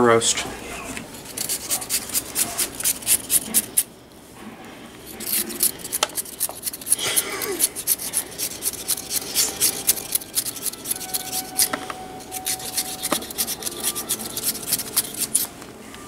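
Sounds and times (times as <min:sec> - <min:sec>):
peeler scraping a carrot: 0:01.1 - 0:03.9, 0:05.0 - 0:15.5.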